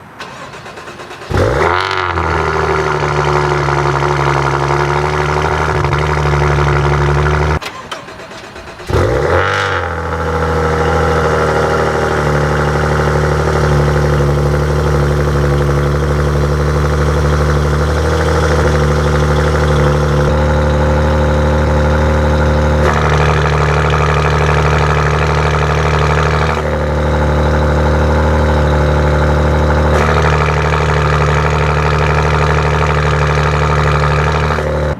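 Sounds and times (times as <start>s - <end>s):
car engine starting and idling: 0.0s - 34.9s.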